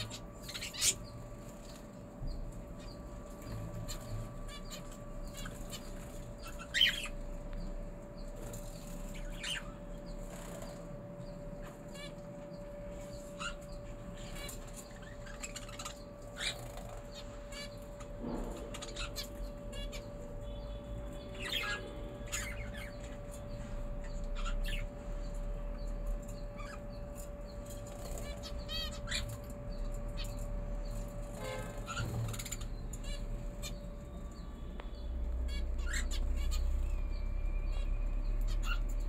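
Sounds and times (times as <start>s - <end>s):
birds chirping: 0.0s - 39.0s
steady low hum: 0.0s - 39.0s.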